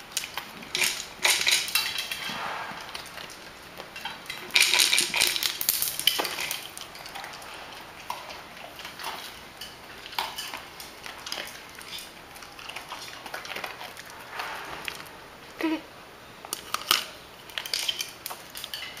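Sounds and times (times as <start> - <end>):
dog crunching dry kibble: 0.0 - 15.6, 16.4 - 19.0
claws clicking on tile floor: 0.1 - 14.2, 16.5 - 19.0.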